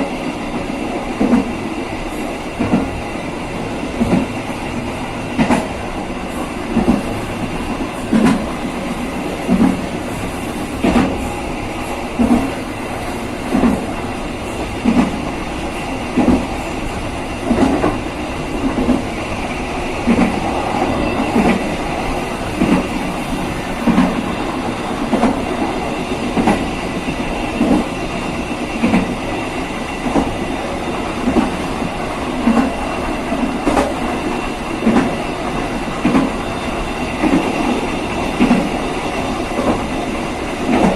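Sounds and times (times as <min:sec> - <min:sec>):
train rumbling on rails: 0:00.0 - 0:40.9.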